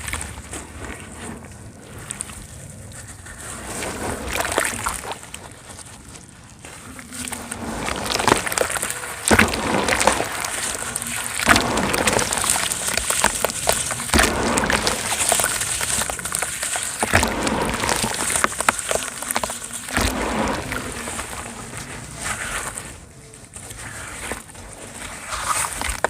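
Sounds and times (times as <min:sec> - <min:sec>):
cement chunks crackling: 0:00.0 - 0:26.0
wet cement sloshing: 0:00.0 - 0:26.0.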